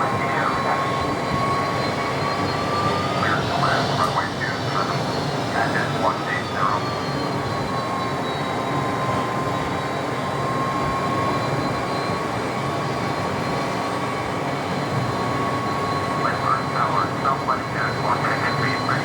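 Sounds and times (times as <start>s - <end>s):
jet engines running: 0.0s - 19.0s
thin steady whine: 0.0s - 19.0s.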